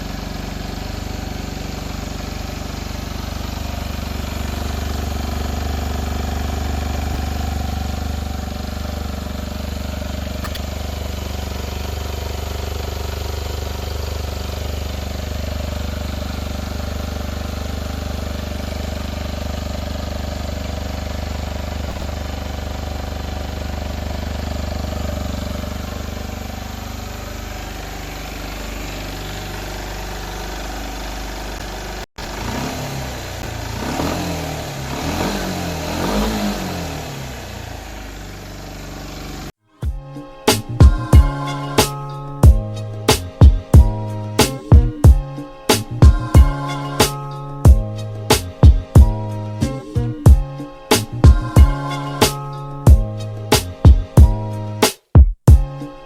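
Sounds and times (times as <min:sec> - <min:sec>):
motorcycle engine idling: 0:00.0 - 0:45.3.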